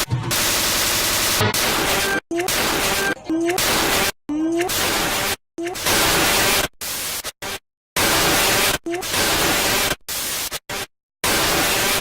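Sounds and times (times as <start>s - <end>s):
bursts of static noise: 0.0s - 7.2s, 8.0s - 12.0s.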